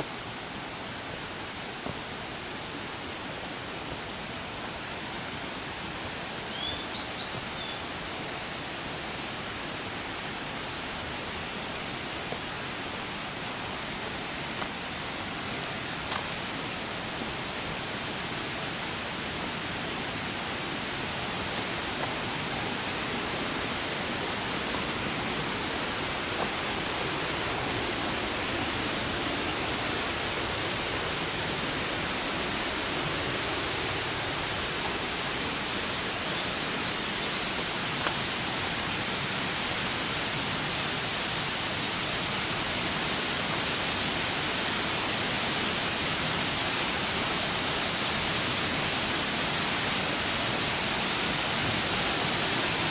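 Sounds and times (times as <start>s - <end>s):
rushing water: 0.0s - 52.9s.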